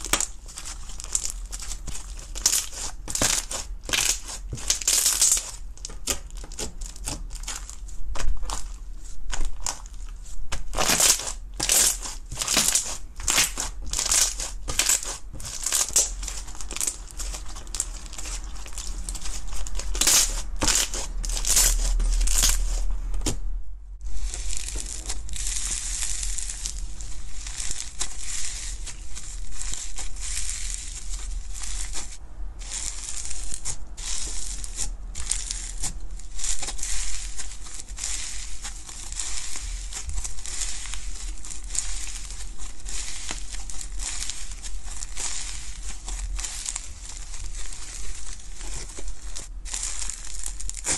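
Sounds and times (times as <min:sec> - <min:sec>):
slime crackling and popping: 0:00.0 - 0:22.9, 0:24.0 - 0:50.9
kneaded slime crinkly crackle: 0:00.0 - 0:23.0, 0:24.0 - 0:50.9.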